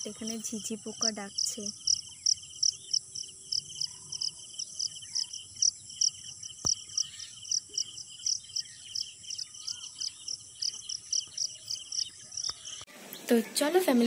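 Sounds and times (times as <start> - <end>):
crickets chirping: 0.0 - 12.8
bird chirps: 0.0 - 13.6.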